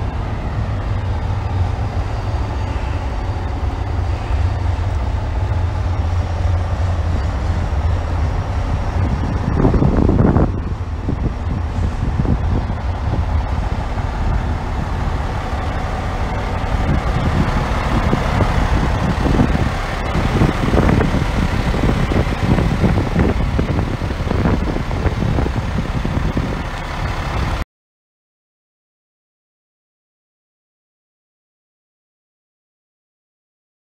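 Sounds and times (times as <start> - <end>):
heavy truck idling: 0.0 - 27.6.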